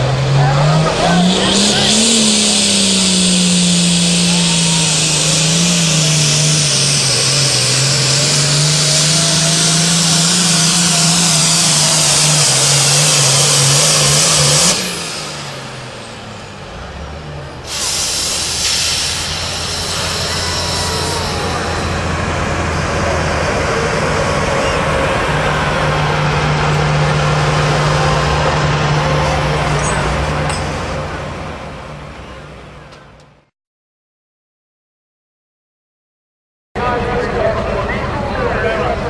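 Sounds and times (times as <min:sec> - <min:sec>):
diesel tractor engine at full throttle: 0:00.0 - 0:33.5, 0:36.8 - 0:39.0.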